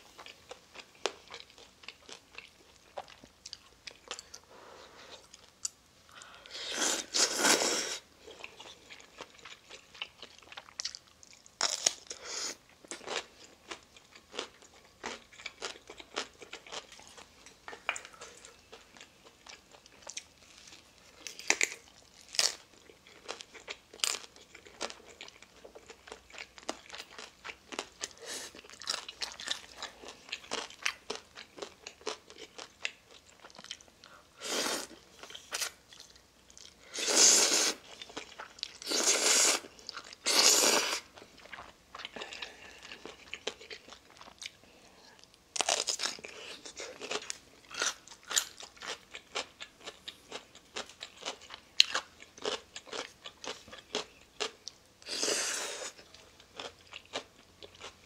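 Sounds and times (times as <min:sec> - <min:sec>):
crunchy chewing: 0:05.1 - 0:44.6, 0:45.2 - 0:58.0.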